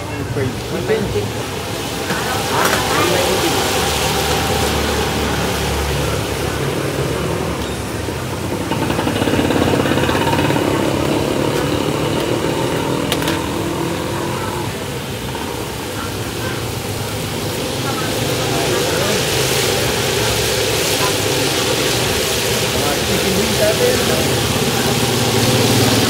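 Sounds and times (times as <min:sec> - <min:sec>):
vehicle engine passing: 0:00.0 - 0:26.0.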